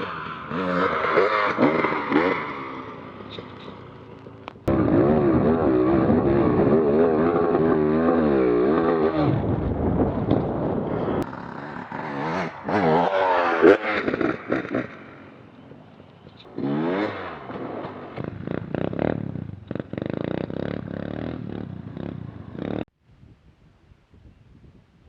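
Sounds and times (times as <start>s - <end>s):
dirt bike engine revving: 0.0s - 9.5s, 11.0s - 15.3s, 16.4s - 22.9s.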